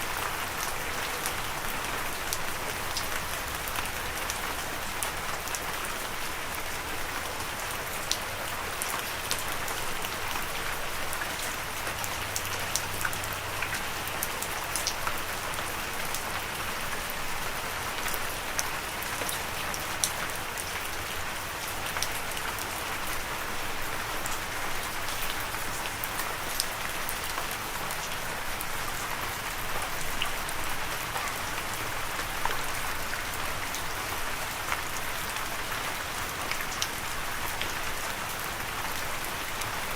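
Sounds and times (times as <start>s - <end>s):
raindrops ticking close by: 0.1s - 39.9s.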